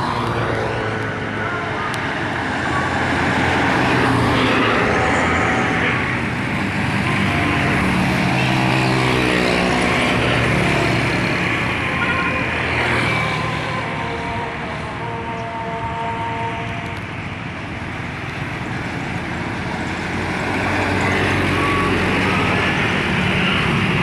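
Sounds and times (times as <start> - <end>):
truck engines passing: 0.0 - 24.0
tyres on road: 0.0 - 24.0.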